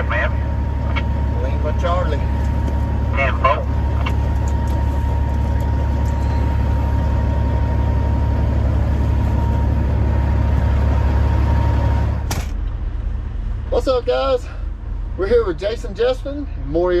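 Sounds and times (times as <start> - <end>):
thin steady whine: 0.0 - 16.5
diesel engine idling: 0.0 - 17.0.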